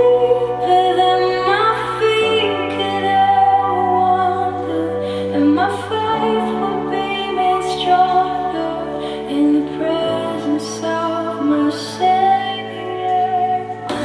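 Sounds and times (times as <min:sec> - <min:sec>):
woman singing slow melody: 0:00.0 - 0:14.0.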